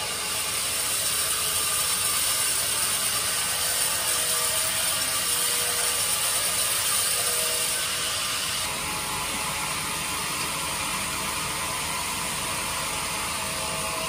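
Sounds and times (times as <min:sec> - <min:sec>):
band saw whirring: 0:00.0 - 0:14.0.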